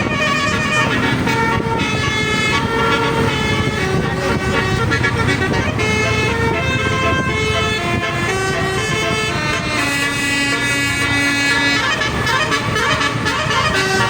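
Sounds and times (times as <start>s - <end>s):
multi-tone bus horn melody: 0.0s - 14.0s
vehicle engine noise: 0.0s - 14.0s.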